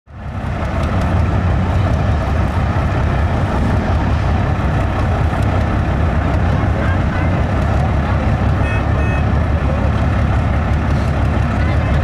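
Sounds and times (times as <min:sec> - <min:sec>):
diesel engine rumbling: 0:00.1 - 0:12.0.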